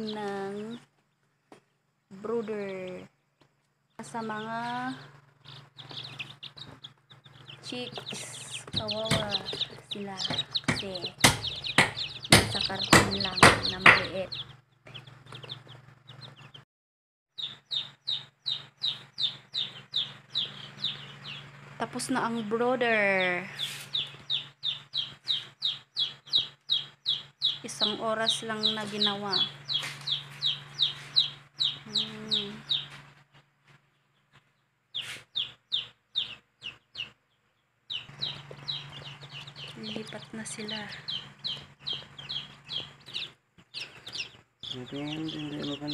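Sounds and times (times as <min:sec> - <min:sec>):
chicks peeping: 0:00.0 - 0:00.9, 0:01.5 - 0:16.6, 0:17.4 - 0:45.9.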